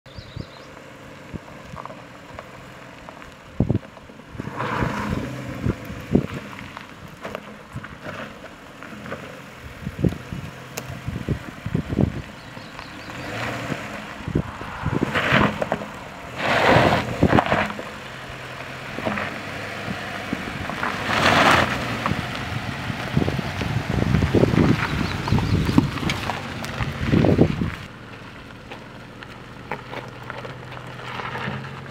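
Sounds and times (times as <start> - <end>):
car engine running low: 0.1 - 31.9
tyres crunching on gravel: 0.1 - 31.9.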